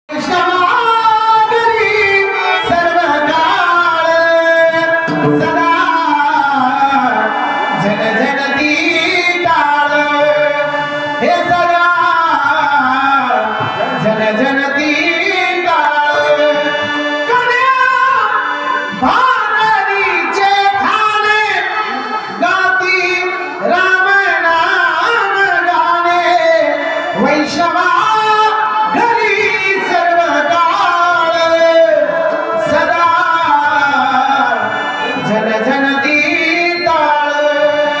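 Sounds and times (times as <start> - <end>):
harmonium accompaniment: 0.1 - 38.0.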